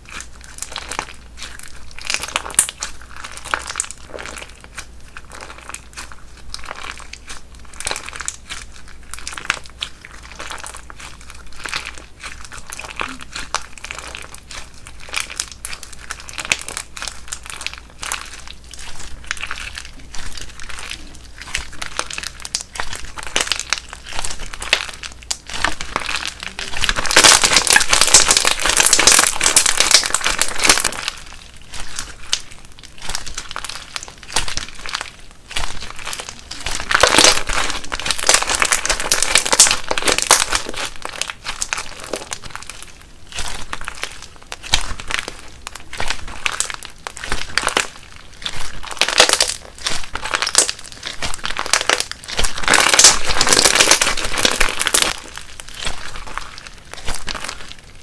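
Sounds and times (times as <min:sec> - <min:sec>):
slime crackling and popping: 0:00.0 - 0:58.0.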